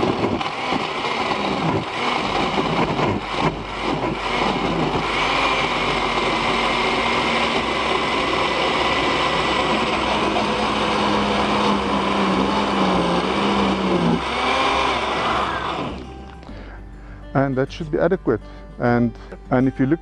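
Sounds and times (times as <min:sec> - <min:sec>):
blender running: 0:00.0 - 0:16.4.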